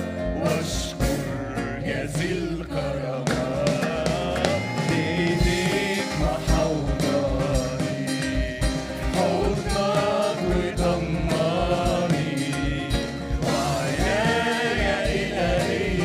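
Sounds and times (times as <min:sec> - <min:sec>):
group of voices singing: 0:00.0 - 0:16.0
worship band playing: 0:00.0 - 0:16.0.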